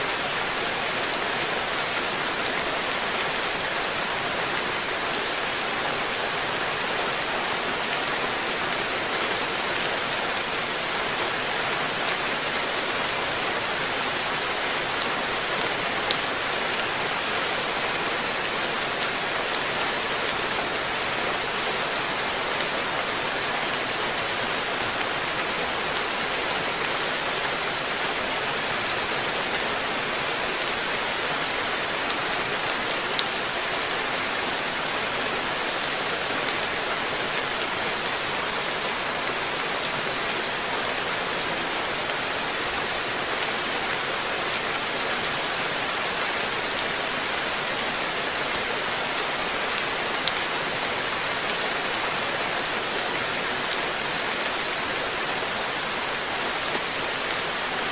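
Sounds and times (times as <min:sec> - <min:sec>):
rain falling on pond: 0:00.0 - 0:57.9.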